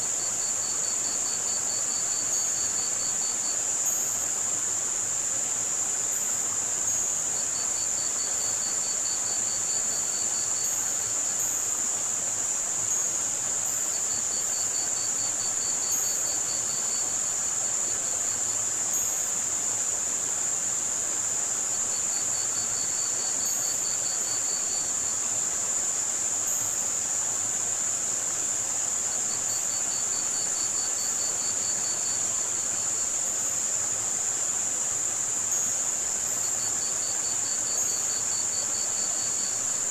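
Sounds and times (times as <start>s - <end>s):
crickets trilling: 0.0s - 39.9s
high-pitched white noise: 0.0s - 39.9s
running water hiss: 0.0s - 39.9s.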